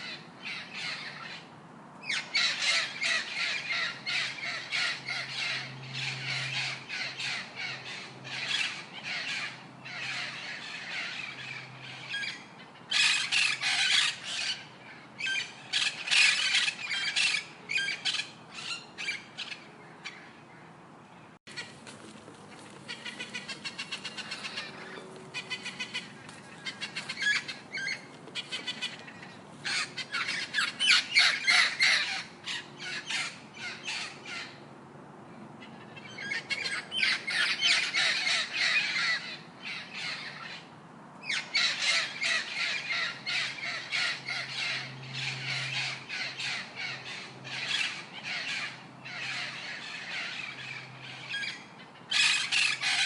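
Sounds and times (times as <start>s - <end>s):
birds squawking and chirping: 0.0s - 34.7s, 35.3s - 53.0s.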